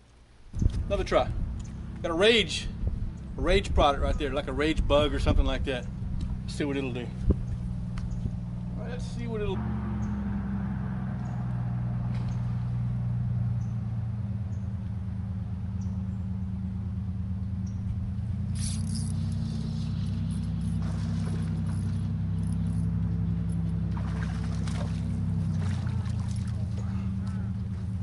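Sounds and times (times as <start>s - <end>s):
airboat engine drone: 0.8s - 28.0s.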